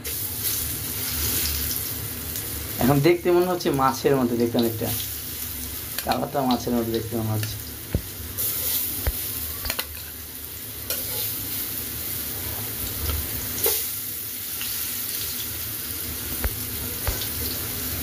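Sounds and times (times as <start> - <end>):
patties sizzling in oil: 0.0 - 18.0.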